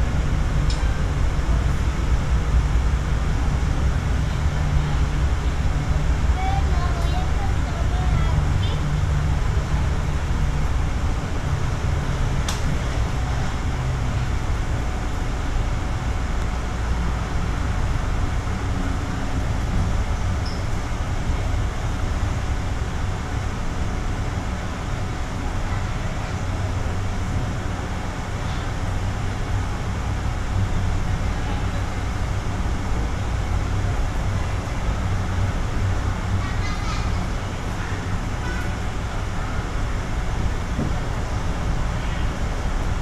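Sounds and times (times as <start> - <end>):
people-mover car running noise: 0.0 - 43.0.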